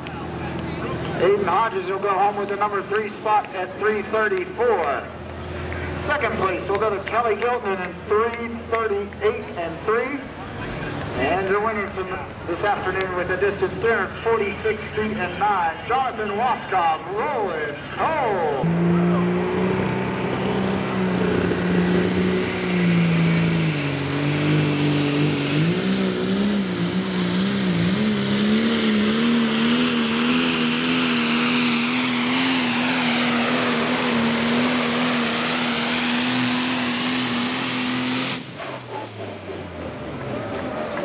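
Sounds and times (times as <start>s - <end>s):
diesel truck engine at full throttle: 0.0s - 41.0s.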